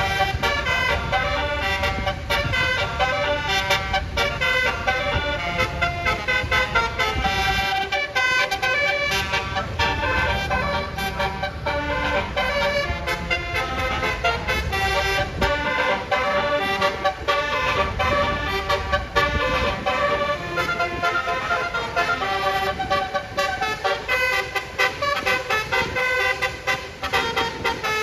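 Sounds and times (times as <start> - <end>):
multi-tone bus horn melody: 0.0 - 28.0.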